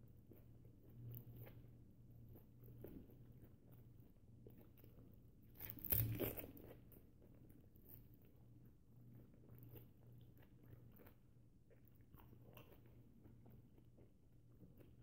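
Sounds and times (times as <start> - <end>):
person chewing banana: 0.2 - 8.4, 9.1 - 15.0.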